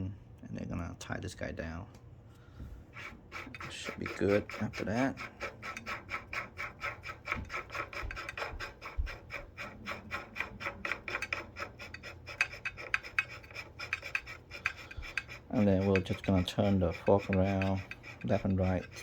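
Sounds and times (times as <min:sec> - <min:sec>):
small metallic clicks and rasps: 0:03.4 - 0:19.0.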